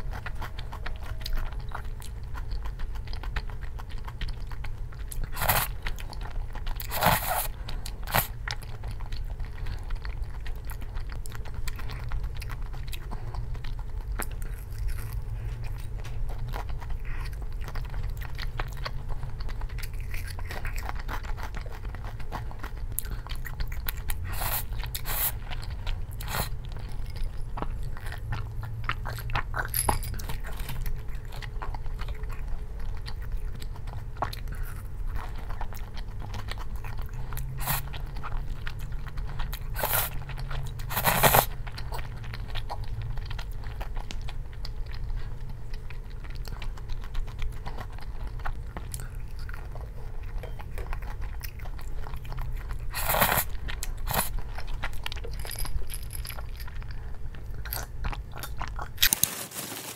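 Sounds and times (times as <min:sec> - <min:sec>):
person chewing crunchy food: 0:00.0 - 0:59.9.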